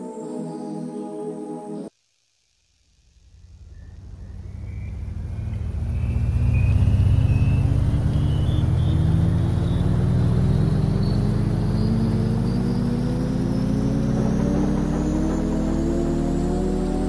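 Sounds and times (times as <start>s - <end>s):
low droning hum: 3.0s - 17.0s
high gliding tones: 3.3s - 17.0s.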